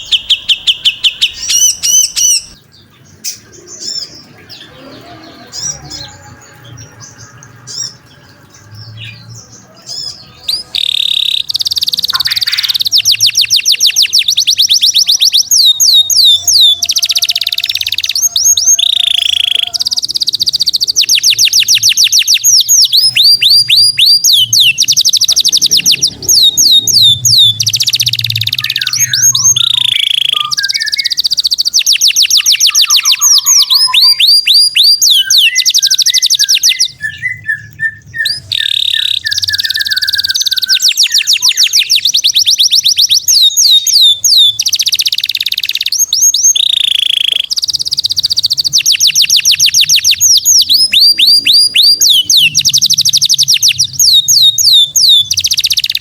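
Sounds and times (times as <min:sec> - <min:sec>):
songbird whistles and trills: 0:00.0 - 0:56.0.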